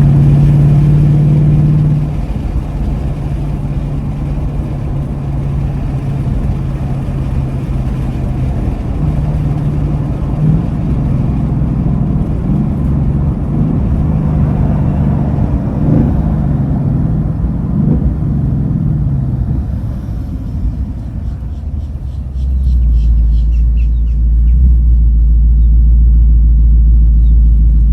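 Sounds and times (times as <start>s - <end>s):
car engine exhaust drone: 0.0s - 27.9s.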